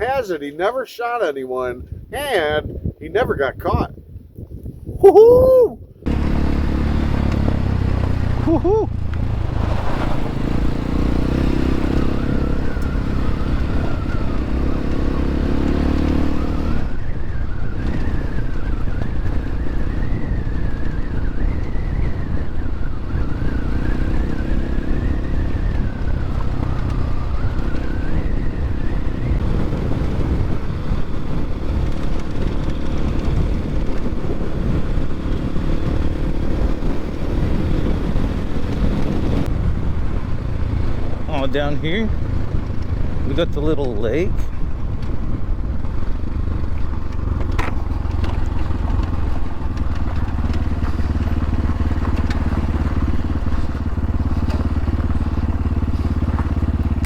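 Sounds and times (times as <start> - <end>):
dirt bike engine revving: 6.0 - 39.5, 40.6 - 57.0.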